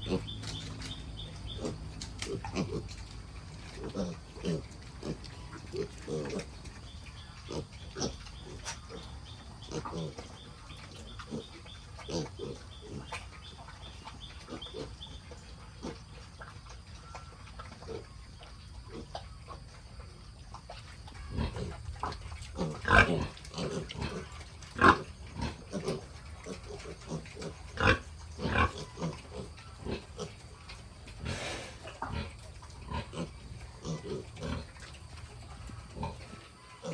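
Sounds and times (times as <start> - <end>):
pigs grunting: 0.0 - 36.9.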